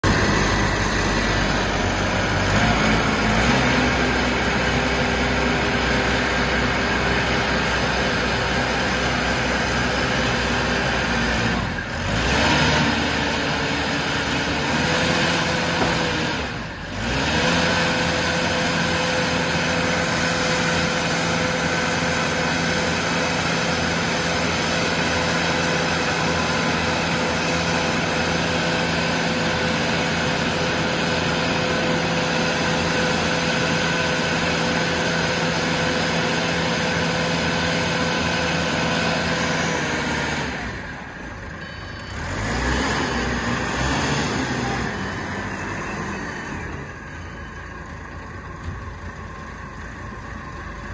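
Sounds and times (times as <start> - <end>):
diesel concrete mixer engine: 0.0 - 50.9.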